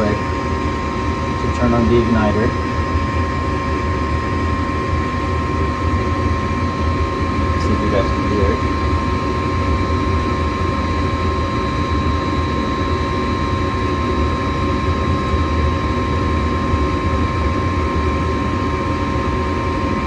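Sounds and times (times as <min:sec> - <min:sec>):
furnace blower whirring hum: 0:00.0 - 0:20.0
steady high whine: 0:00.0 - 0:20.0.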